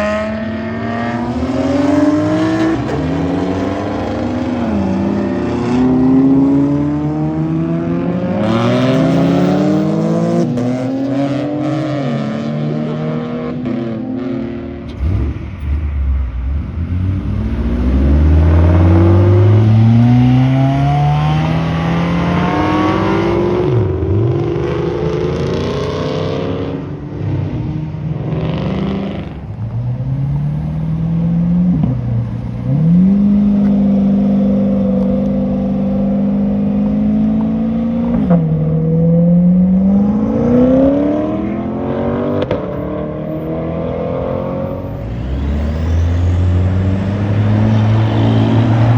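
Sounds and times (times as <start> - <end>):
car engines revving hard: 0.0 - 48.9.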